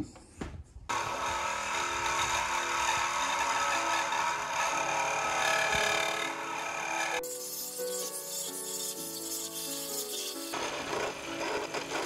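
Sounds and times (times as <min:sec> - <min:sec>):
power tool grinding pipe: 0:00.9 - 0:12.0.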